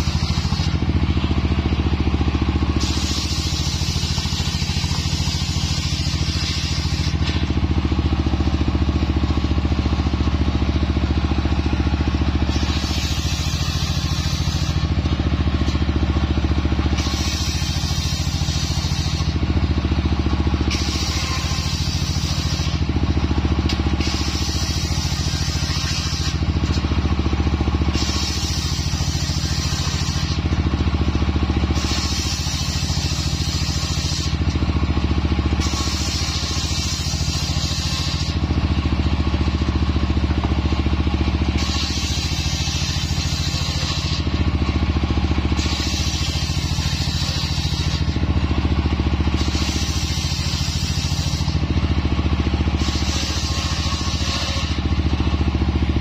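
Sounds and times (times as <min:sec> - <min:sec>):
circular saw blade hissing in wood: 0:00.0 - 0:39.9, 0:40.8 - 0:55.9
engine droning: 0:00.0 - 0:56.0.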